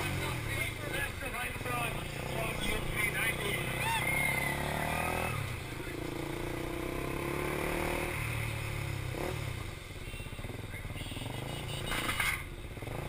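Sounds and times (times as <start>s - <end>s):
motorcycle engine under throttle: 0.0s - 9.8s, 10.4s - 13.0s.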